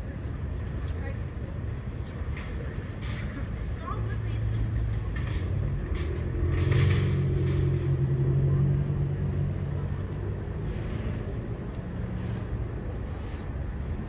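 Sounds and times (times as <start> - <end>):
vehicle engine running low hum: 0.0 - 14.0.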